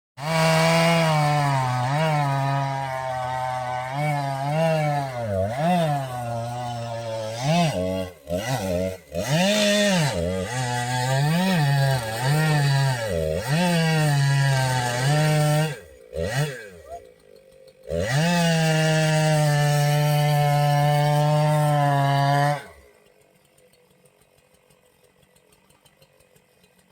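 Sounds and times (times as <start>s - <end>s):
chainsaw running at high revs: 0.2s - 26.9s.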